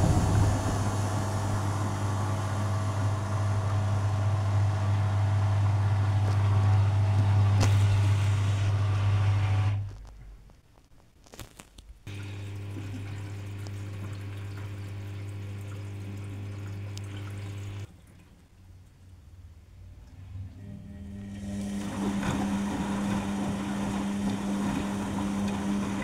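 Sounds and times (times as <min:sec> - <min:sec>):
washing machine humming: 0:00.0 - 0:09.9, 0:12.1 - 0:19.0, 0:20.1 - 0:26.0.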